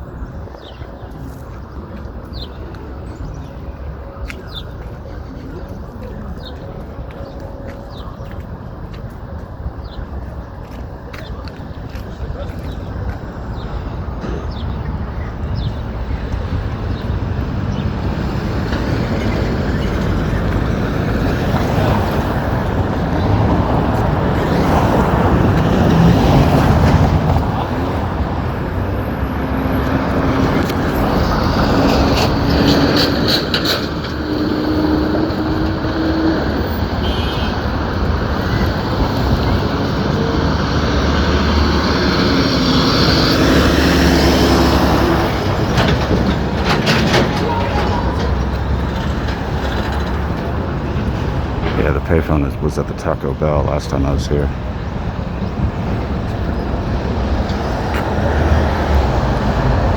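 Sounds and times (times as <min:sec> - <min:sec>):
cars and trucks passing: 0:00.0 - 0:59.9.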